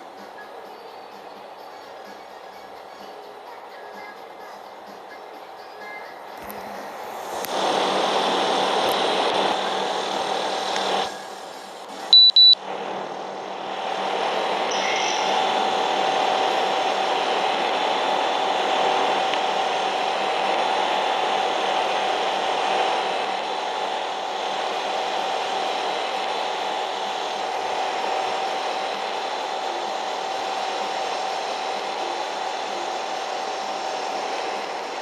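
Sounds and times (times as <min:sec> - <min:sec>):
air conditioner whirring: 0:00.0 - 0:35.0.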